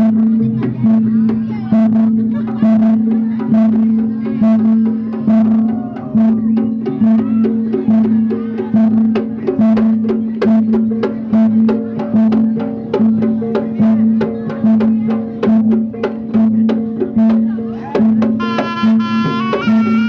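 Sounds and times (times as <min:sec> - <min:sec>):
percussion ensemble music: 0:00.0 - 0:20.0
sharp drum strokes: 0:00.0 - 0:20.0.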